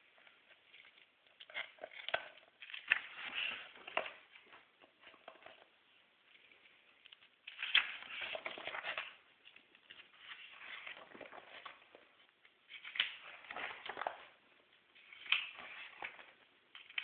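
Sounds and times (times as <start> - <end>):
magazine pages rustling: 0.2 - 17.0.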